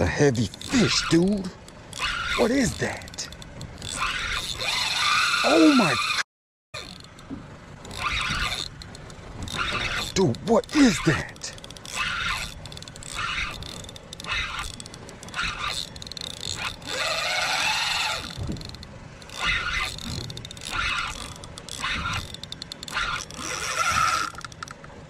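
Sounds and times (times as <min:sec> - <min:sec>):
fishing reel scraping and clicking: 0:00.0 - 0:06.2, 0:06.8 - 0:24.9.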